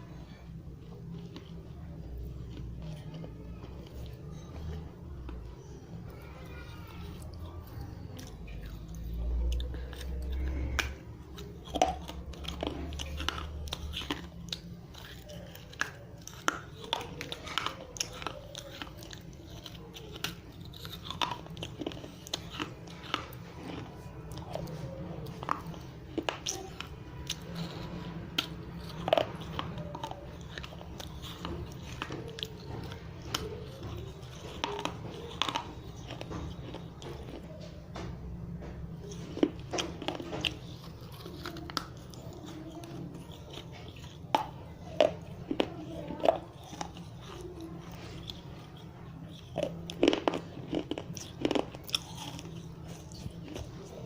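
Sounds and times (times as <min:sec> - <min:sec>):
clay crunching between teeth: 0:00.0 - 0:54.0.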